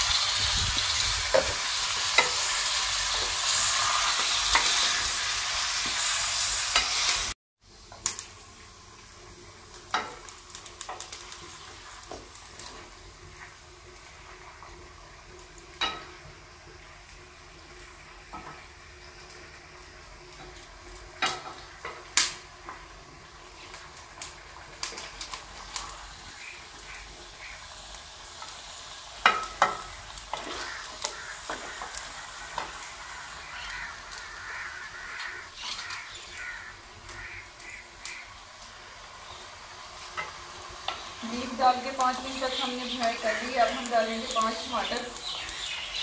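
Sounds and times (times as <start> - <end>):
meat sizzling: 0.0 - 46.0.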